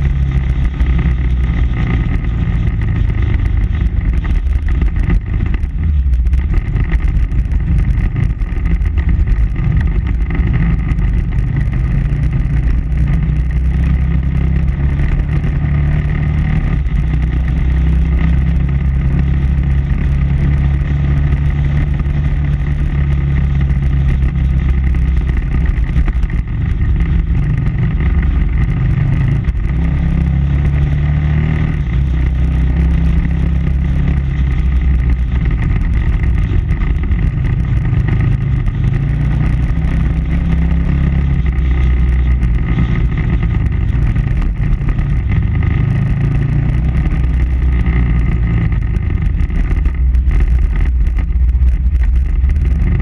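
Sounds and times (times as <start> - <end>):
motorcycle engine running: 0.0 - 53.0
rush of riding noise: 0.0 - 53.0.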